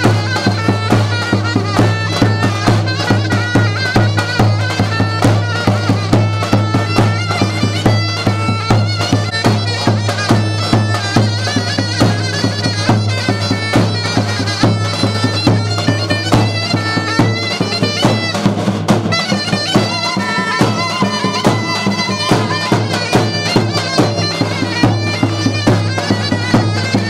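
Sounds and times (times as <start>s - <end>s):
reedy wind melody: 0.0s - 27.0s.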